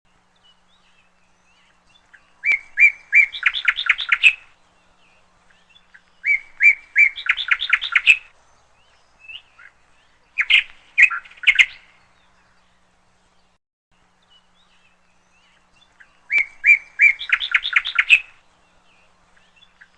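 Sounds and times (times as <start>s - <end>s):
songbird singing: 0.1s - 19.9s.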